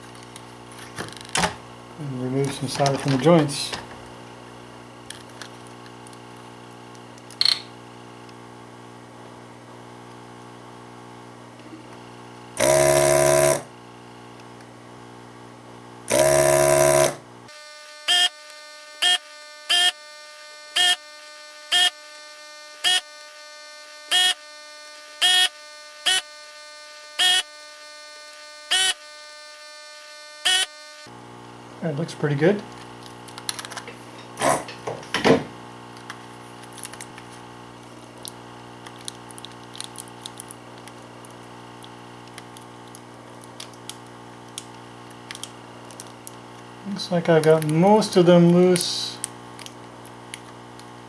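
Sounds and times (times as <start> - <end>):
desoldering pump buzzing: 0.0 - 51.0
steady hum: 0.0 - 51.0.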